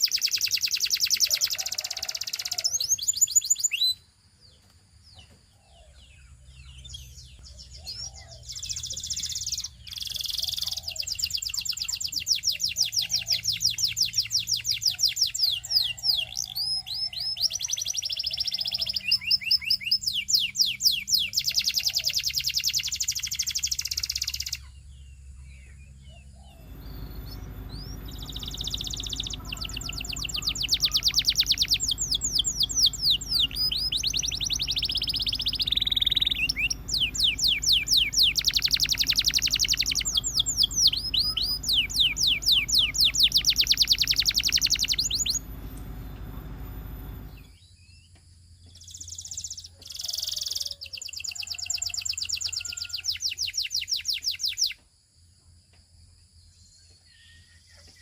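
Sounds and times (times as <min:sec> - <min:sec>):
canary singing trills: 0:00.0 - 0:04.0, 0:05.2 - 0:47.6.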